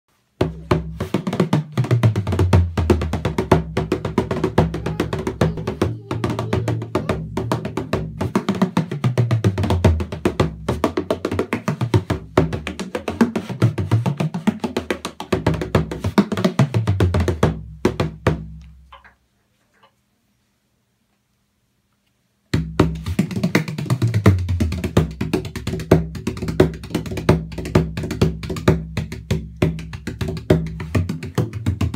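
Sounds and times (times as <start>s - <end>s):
bodhran drum fast rhythm: 0.4s - 18.5s, 22.6s - 31.9s.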